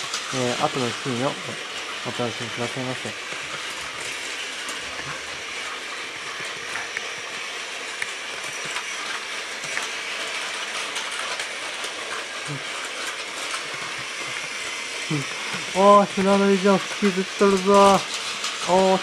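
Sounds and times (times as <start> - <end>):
toy train motors whirring: 0.0 - 19.0
wheels clicking and rattling on track: 0.0 - 19.0.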